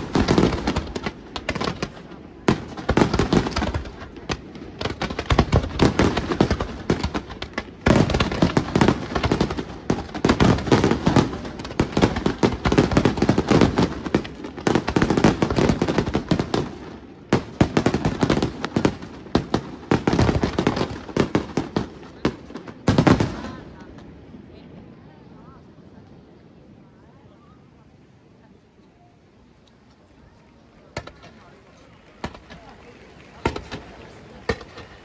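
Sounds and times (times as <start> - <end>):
fireworks bangs: 0.0 - 26.1, 30.1 - 35.0
fireworks crackling: 0.0 - 35.0.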